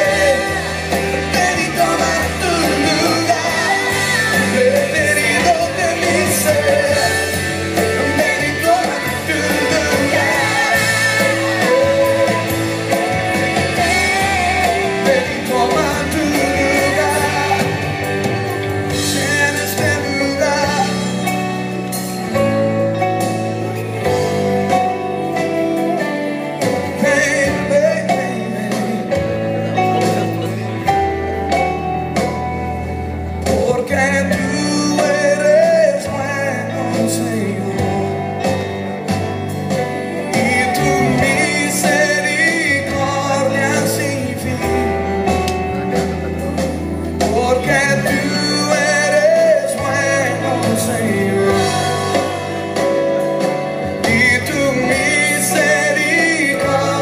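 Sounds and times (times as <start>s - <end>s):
worship music with singing: 0.0s - 32.3s, 32.9s - 57.0s.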